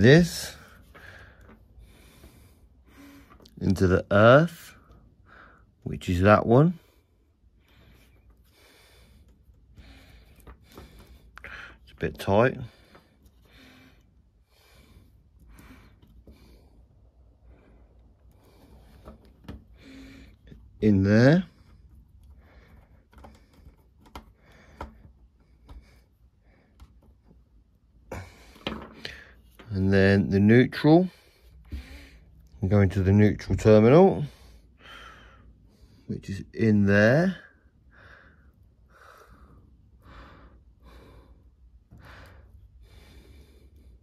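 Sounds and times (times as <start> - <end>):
soft breathing: 0.0 - 3.6, 4.5 - 5.8, 6.7 - 29.7, 30.7 - 32.6, 34.0 - 36.1, 37.4 - 44.0.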